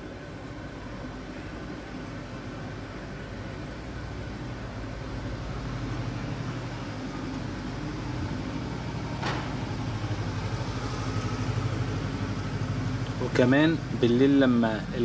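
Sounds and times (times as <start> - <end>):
vehicle engine running: 3.0 - 15.0.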